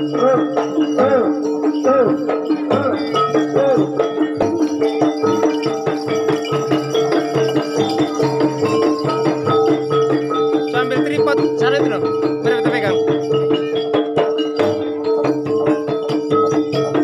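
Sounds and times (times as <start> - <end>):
drums: 0.0 - 17.0
struck metal percussion: 0.0 - 17.0.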